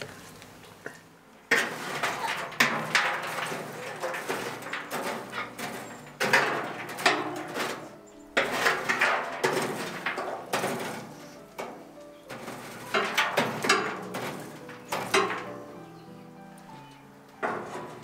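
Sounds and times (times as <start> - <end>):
metal poker scraping coals: 0.0 - 18.0.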